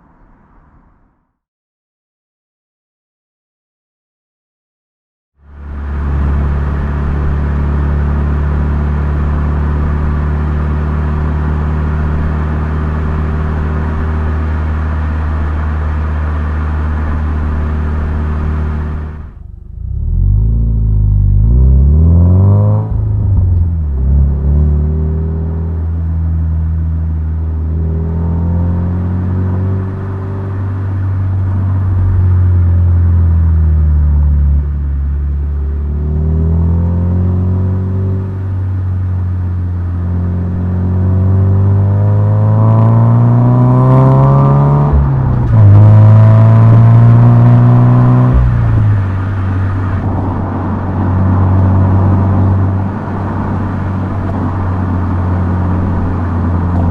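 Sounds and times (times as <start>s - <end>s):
car engine running while driving: 5.4s - 56.9s.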